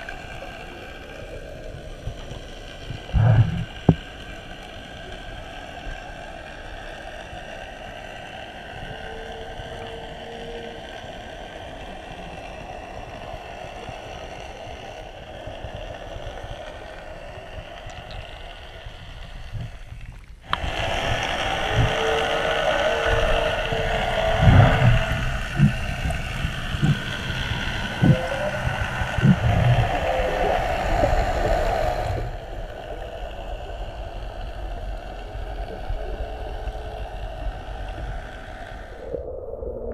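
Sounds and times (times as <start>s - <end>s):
underwater drone: 0.0s - 39.9s.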